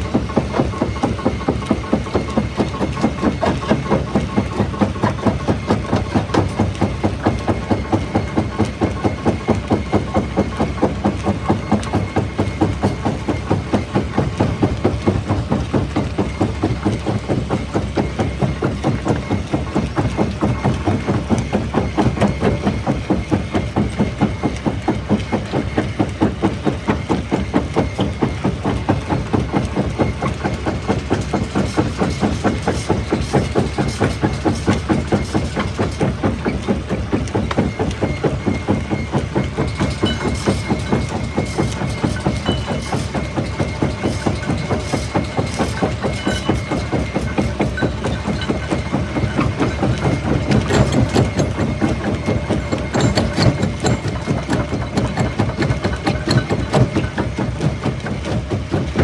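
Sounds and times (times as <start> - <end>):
rock crusher pulsing: 0.0 - 59.0.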